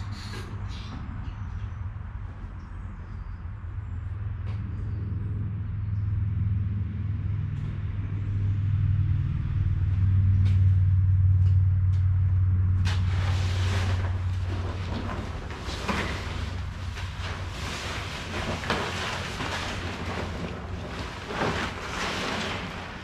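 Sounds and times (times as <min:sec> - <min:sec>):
deep engine rumble: 0:00.0 - 0:23.0.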